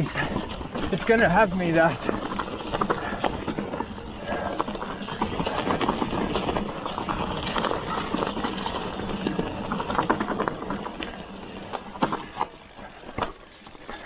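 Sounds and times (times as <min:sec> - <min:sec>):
bike clattering rattle: 0:00.0 - 0:14.0
bike tyres rolling over dirt: 0:00.0 - 0:14.0.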